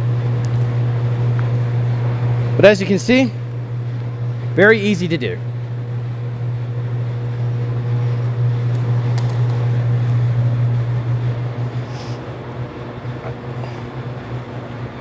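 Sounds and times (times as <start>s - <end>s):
wire stripping machine humming: 0.0s - 15.0s.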